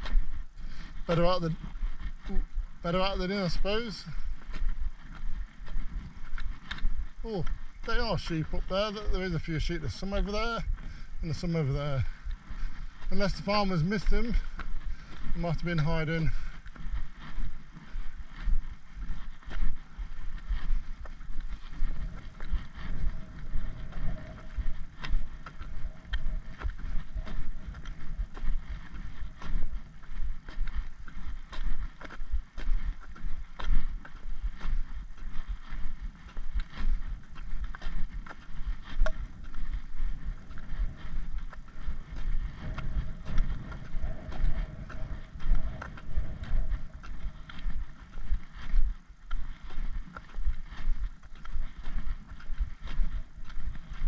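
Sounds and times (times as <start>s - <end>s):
footsteps on tarmac: 0.0s - 54.0s
wind rumbling on microphone: 0.0s - 54.0s.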